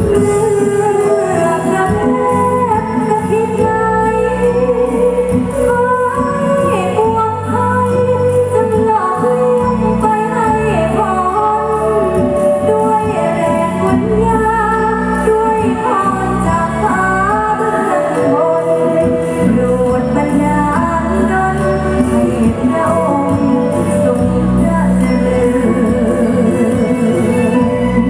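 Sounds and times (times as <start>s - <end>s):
instrumental backing with beat: 0.0s - 28.0s
woman singing into a microphone: 0.0s - 28.0s.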